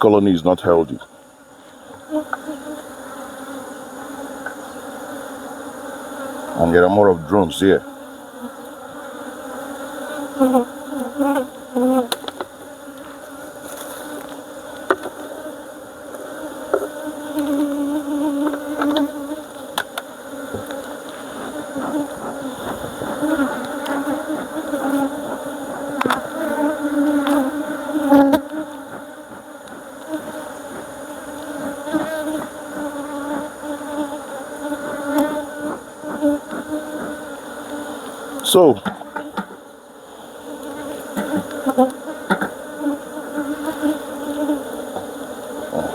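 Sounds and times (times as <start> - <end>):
honeybees buzzing: 0.0 - 45.9.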